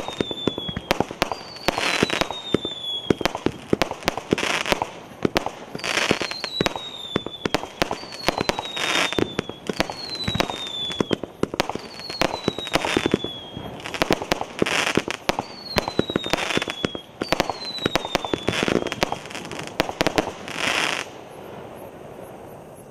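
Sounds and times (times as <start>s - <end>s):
falling firework whistle: 0.0s - 21.1s
fireworks crackling bursts: 0.0s - 22.2s.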